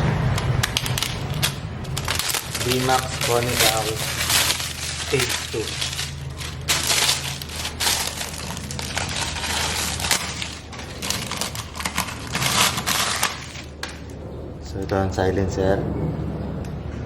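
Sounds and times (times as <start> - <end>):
crinkling and crunching handling: 0.0 - 14.2.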